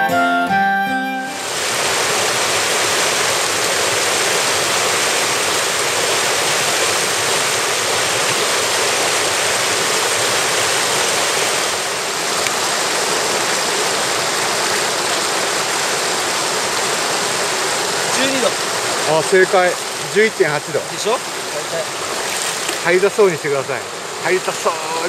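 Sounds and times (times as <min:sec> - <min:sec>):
stream rushing over rocks: 0:01.4 - 0:25.0.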